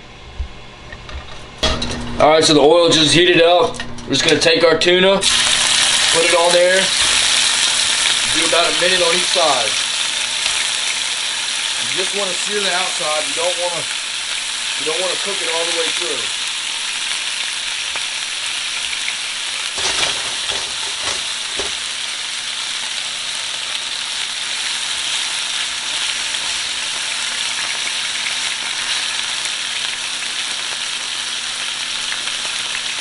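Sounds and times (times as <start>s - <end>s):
fish searing in frying pan: 5.2s - 33.0s.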